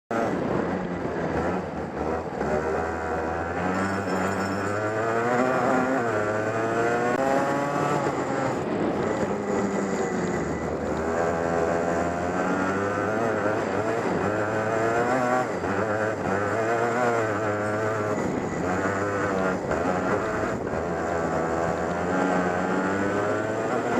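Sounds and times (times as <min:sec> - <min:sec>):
go-kart engine revving: 0:00.1 - 0:23.9.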